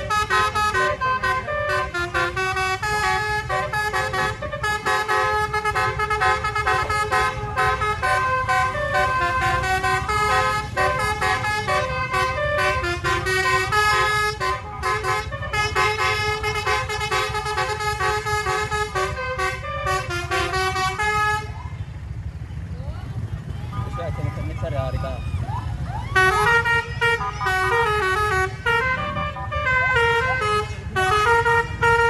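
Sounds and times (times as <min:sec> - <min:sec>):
multi-tone bus air horn melody: 0:00.0 - 0:22.2, 0:26.1 - 0:32.0.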